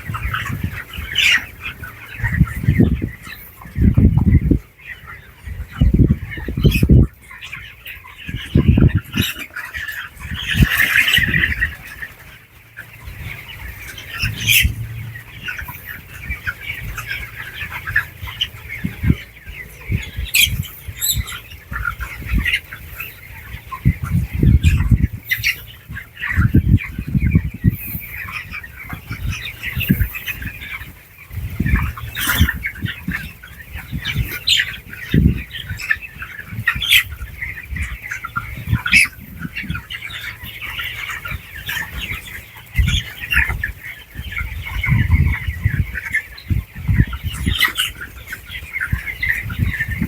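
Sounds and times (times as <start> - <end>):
chickens peeping and calling: 0.0 - 50.0.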